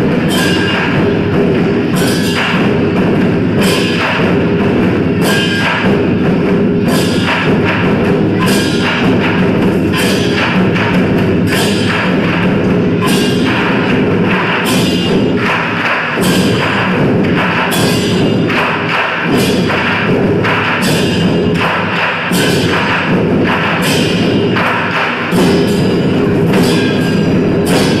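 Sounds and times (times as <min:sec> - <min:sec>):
barrel drums beaten with sticks: 0:00.0 - 0:28.0
hand cymbals crashing: 0:00.0 - 0:28.0.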